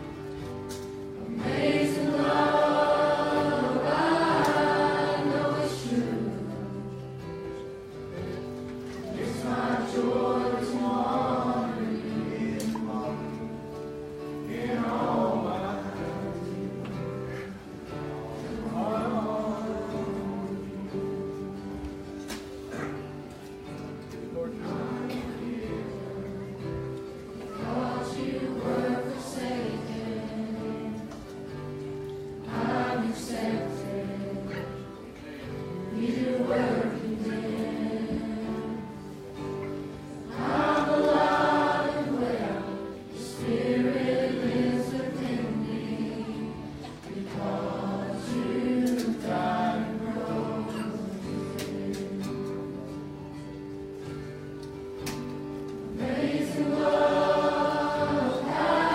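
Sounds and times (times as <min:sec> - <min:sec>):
congregation singing a hymn: 0:00.0 - 0:58.9.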